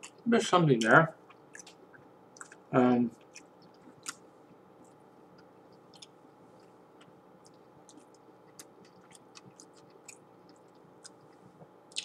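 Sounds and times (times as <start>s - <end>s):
low steady hum: 0.0s - 12.0s
wet mouth chewing sounds: 0.0s - 12.0s.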